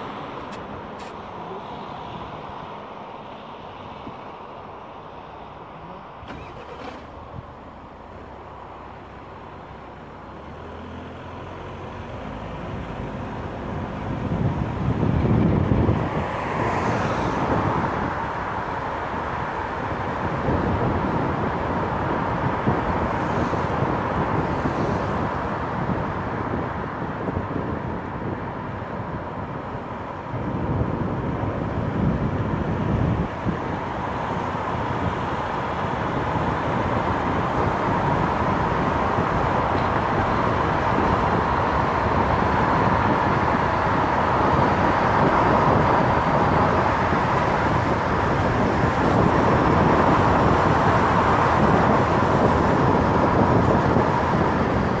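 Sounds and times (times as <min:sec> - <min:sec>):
wind and tyre noise: 0:00.0 - 0:55.0
wind rumbling on microphone: 0:05.3 - 0:55.0.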